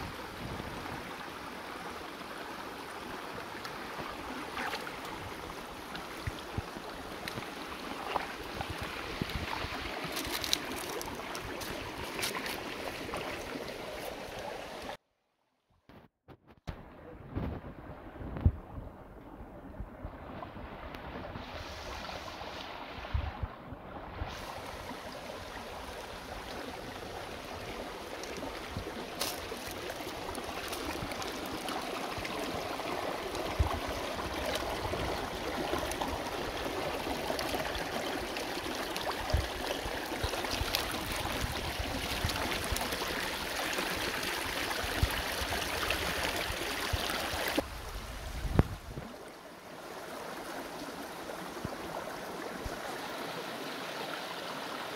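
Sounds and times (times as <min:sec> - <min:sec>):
stream running over stones: 0:00.0 - 0:15.0, 0:20.0 - 0:54.9.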